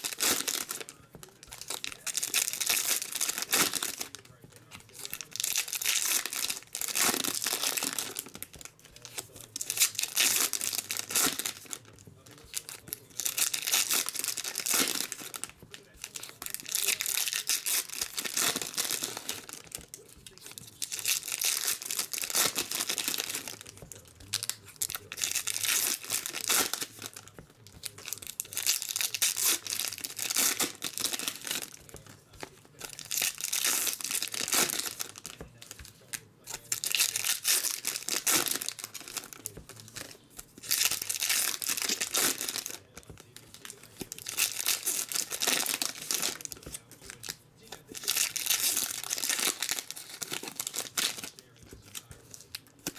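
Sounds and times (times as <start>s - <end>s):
foil wrappers crinkling and tearing: 0.0s - 52.9s.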